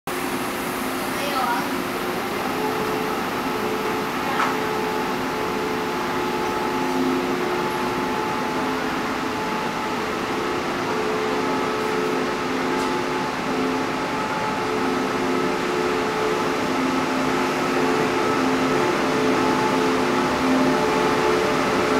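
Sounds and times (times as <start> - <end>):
train hum of steady tones: 0.1 - 21.9
train carriages rumbling: 1.0 - 21.9.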